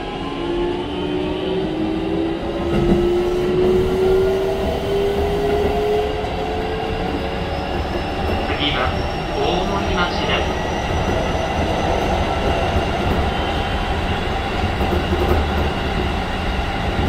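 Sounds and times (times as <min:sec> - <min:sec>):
wheels rumbling on rails: 0:01.5 - 0:17.0.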